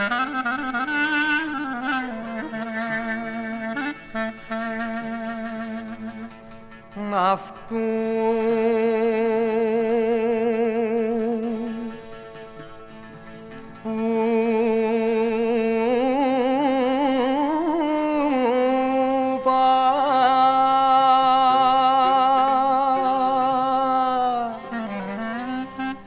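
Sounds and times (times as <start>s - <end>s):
folk song with ornamented lead: 0.0s - 26.0s.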